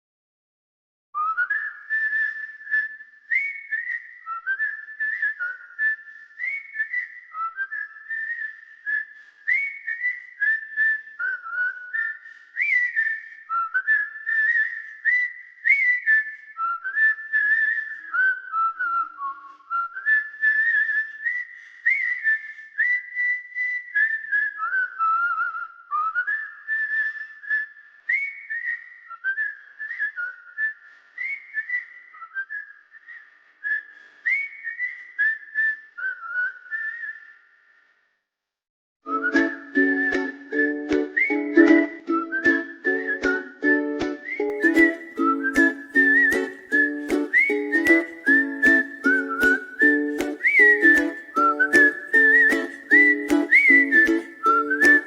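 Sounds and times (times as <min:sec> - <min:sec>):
person whistling a tune: 0:01.2 - 0:37.5, 0:39.1 - 0:55.0.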